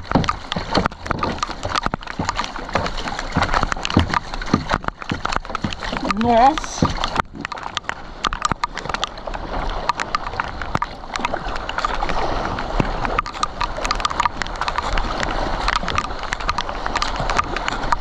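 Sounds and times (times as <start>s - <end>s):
rain pattering on water: 0.0s - 18.0s
water sloshing around kayak: 0.0s - 18.0s.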